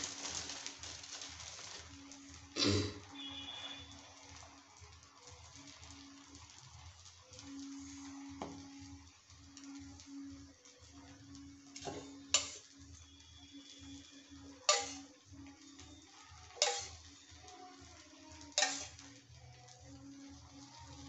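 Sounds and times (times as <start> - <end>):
soft low beat music: 0.0 - 21.0.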